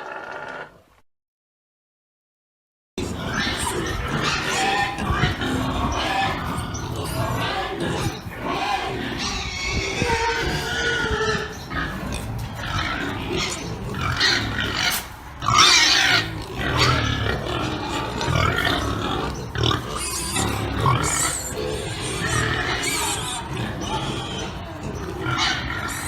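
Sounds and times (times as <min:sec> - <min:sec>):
pigs calling: 0:00.0 - 0:00.8, 0:03.0 - 0:26.0.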